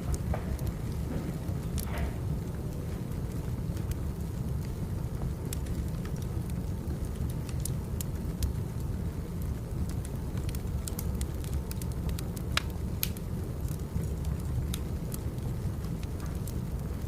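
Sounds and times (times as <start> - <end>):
fire crackling and popping: 0.0 - 17.0
wood fire rumble: 0.0 - 17.0.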